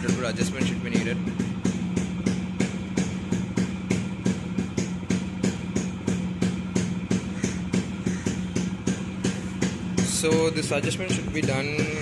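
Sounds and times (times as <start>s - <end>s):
two-stroke motorcycle engine idling: 0.0s - 12.0s.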